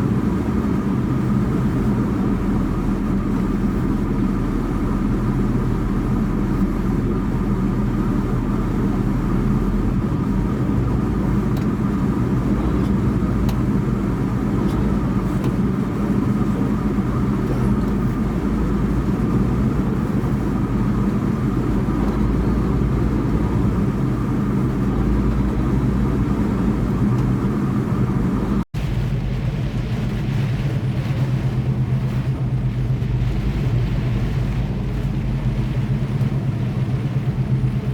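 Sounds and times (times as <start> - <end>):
truck engine and road drone: 0.0 - 37.9.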